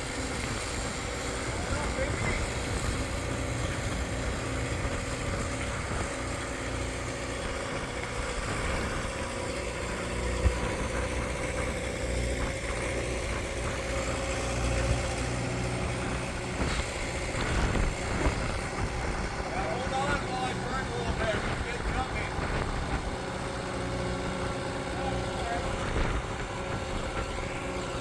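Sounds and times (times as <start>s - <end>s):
construction machine engine idling: 0.0s - 28.0s.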